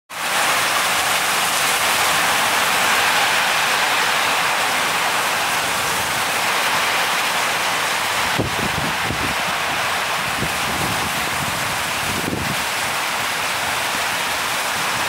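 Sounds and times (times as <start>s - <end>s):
heavy rain pouring: 0.1s - 15.0s.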